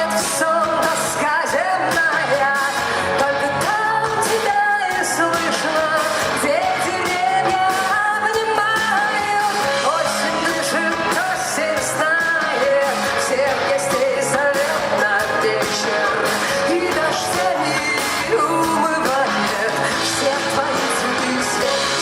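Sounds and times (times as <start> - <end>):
live rock band playing: 0.0 - 22.0
person singing: 0.0 - 22.0.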